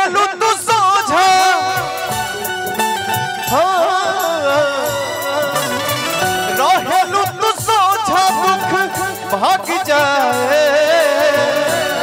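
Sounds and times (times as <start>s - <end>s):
instrumental accompaniment: 0.0s - 12.0s.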